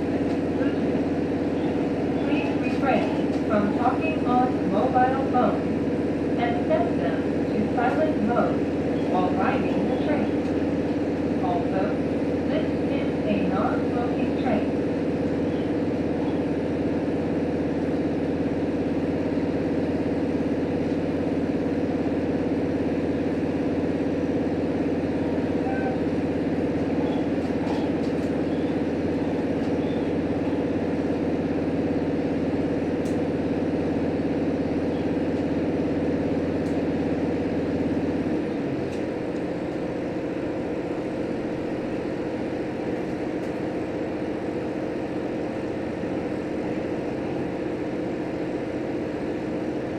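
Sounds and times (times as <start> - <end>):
diesel railcar engine drone: 0.0 - 49.9.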